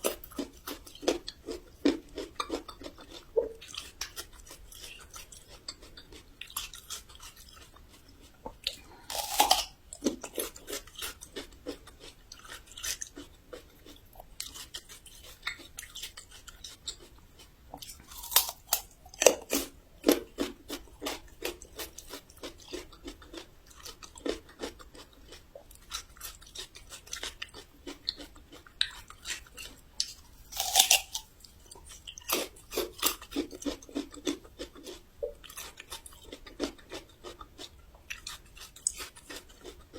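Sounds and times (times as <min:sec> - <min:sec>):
ginger root crunching when chewed: 0:00.0 - 0:39.9.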